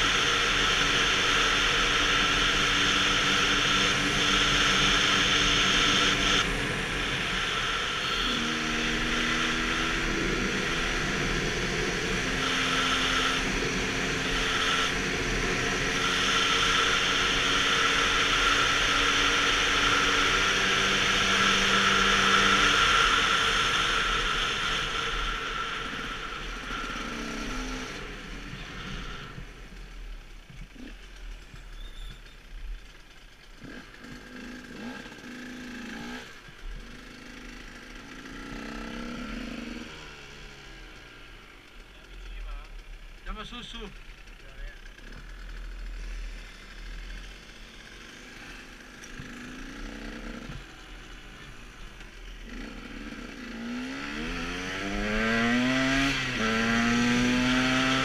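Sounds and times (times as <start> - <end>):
two-stroke motorcycle engine: 0.0 - 58.0.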